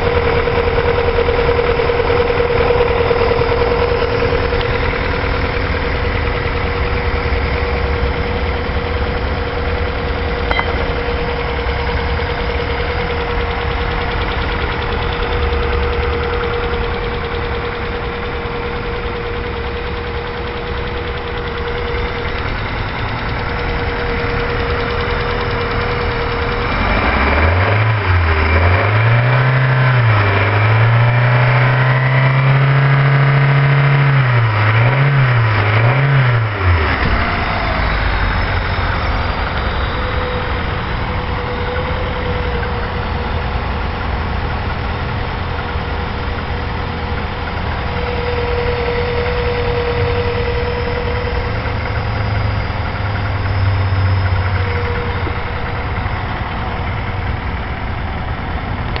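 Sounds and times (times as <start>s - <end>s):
car engine revving and idling: 0.0s - 59.0s.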